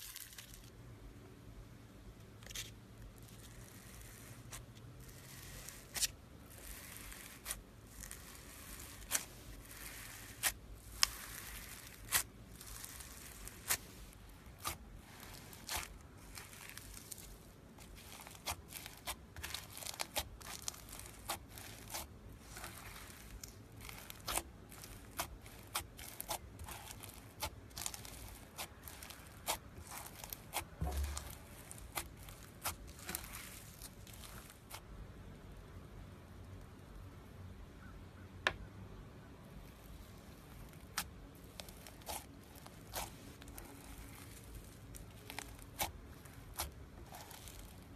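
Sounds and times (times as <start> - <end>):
crunchy slime crackling and popping: 0.0 - 0.8, 2.4 - 34.8, 39.6 - 47.9.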